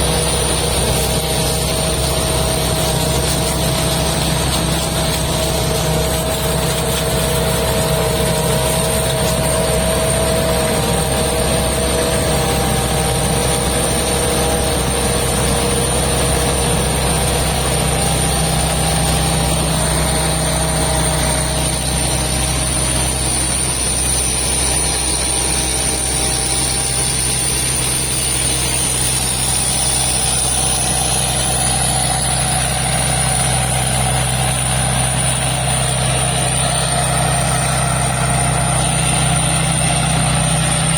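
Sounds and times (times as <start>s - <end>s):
diesel engine running: 0.0s - 40.9s
high whine: 0.0s - 40.9s.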